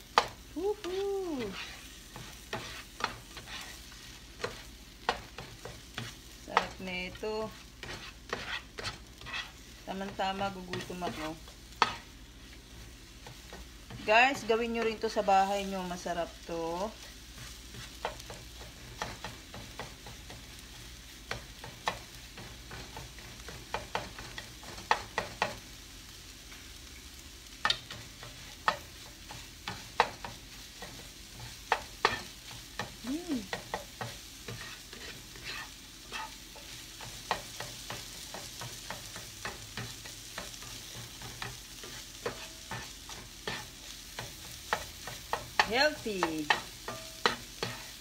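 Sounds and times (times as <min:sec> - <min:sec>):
faint sizzle of frying: 0:00.0 - 0:48.0
spatula scraping a frying pan: 0:00.2 - 0:15.5, 0:16.8 - 0:25.8, 0:27.6 - 0:48.0.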